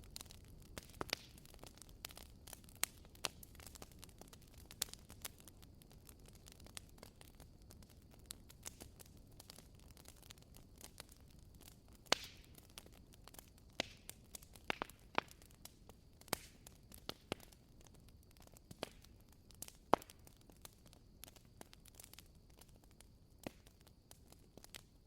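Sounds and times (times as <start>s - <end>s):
firewood crackling and popping: 0.0s - 25.0s.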